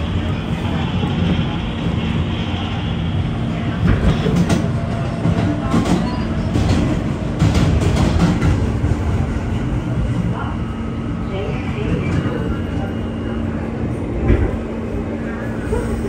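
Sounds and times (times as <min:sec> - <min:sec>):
subway car wheels rumbling: 0:00.0 - 0:16.0.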